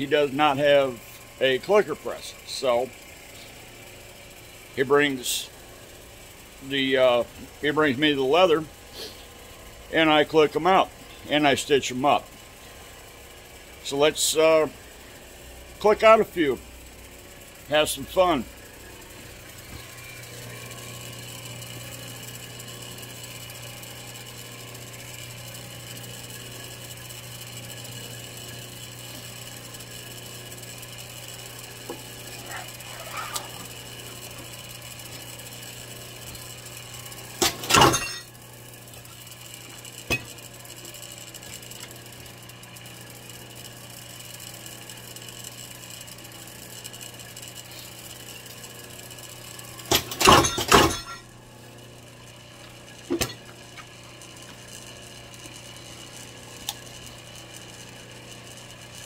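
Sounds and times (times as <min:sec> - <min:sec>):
press machine humming: 0:00.0 - 0:59.0.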